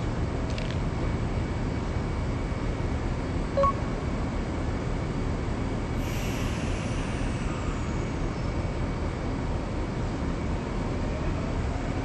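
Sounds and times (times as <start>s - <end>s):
train rumbling overhead: 0.0s - 12.0s.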